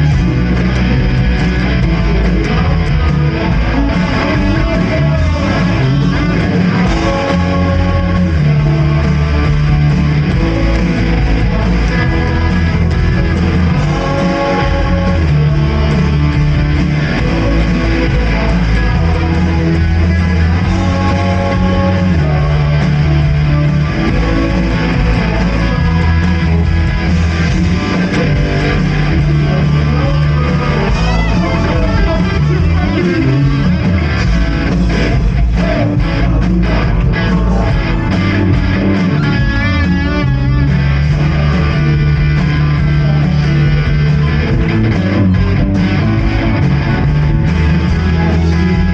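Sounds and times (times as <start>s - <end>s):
bass notes: 0.0s - 48.9s
guitar: 0.0s - 48.9s.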